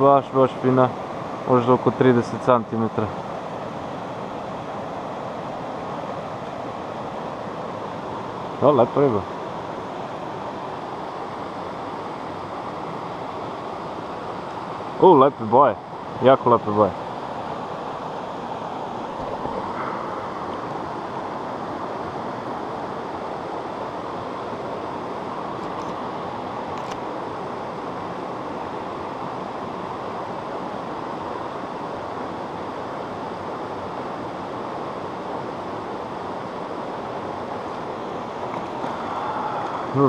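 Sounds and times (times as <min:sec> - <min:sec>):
river water rushing over cascade: 0:00.0 - 0:40.0.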